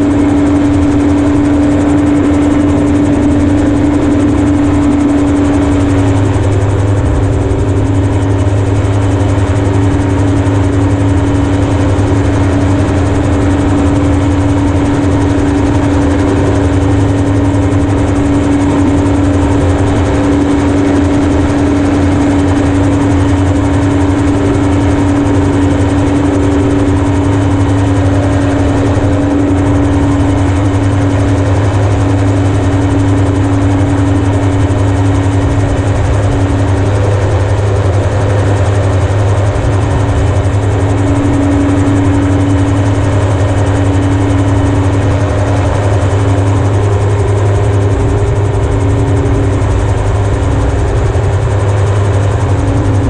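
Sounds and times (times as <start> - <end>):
aircraft engine humming: 0.0 - 53.0.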